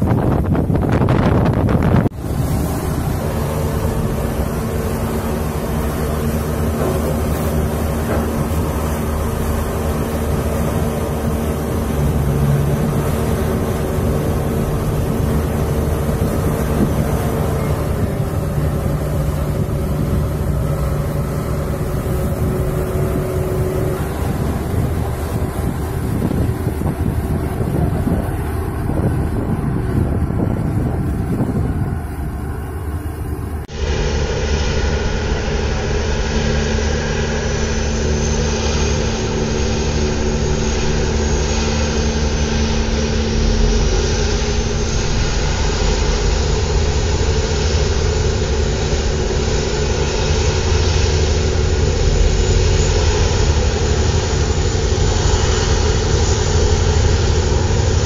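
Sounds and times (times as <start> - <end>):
crane machinery droning: 0.0 - 58.0
wind on microphone: 0.0 - 58.0.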